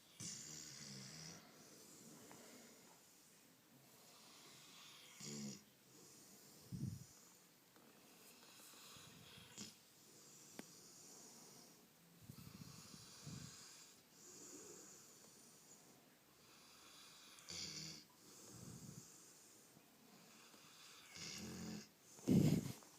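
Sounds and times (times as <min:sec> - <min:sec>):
dog snoring faintly: 0:03.9 - 0:22.9.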